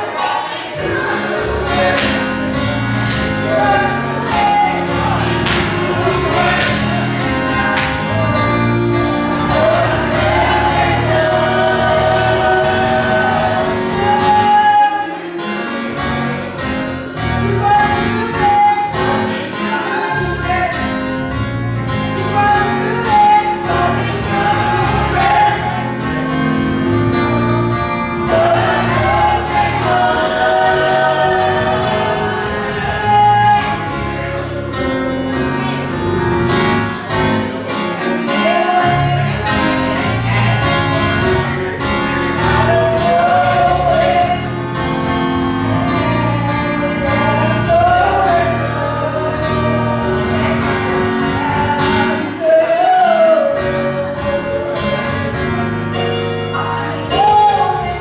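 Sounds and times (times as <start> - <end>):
gospel choir singing a hymn: 0.0 - 58.0
instrumental accompaniment: 0.0 - 58.0.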